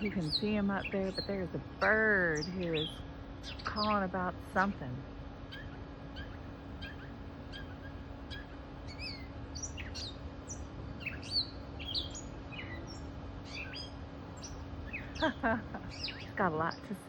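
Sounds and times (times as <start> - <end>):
bird chirping and whistling: 0.0 - 4.1, 5.5 - 16.4.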